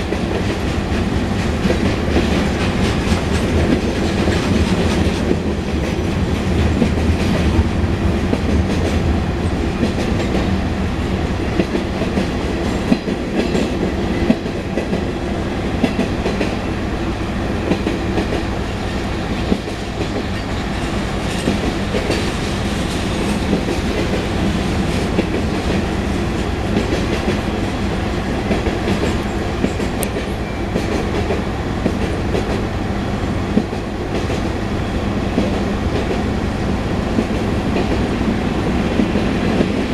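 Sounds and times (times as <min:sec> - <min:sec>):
freight train wheels clicking on rails: 0:00.0 - 0:39.9.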